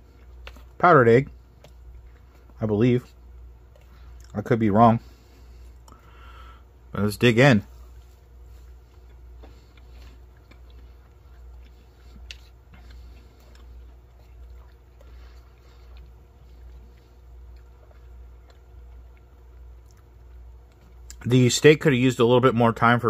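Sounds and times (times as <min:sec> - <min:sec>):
faint chewing: 0:00.0 - 0:21.3
steady low hum: 0:00.0 - 0:23.0.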